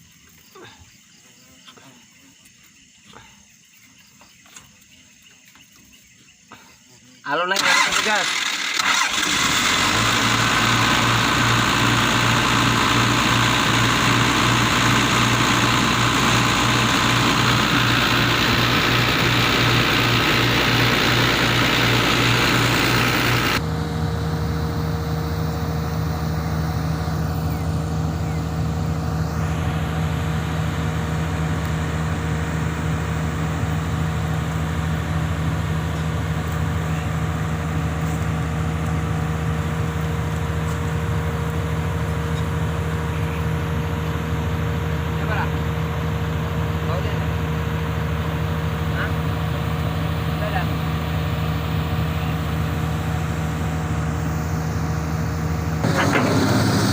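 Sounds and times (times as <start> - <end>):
excavator diesel engine running: 7.3 - 56.9.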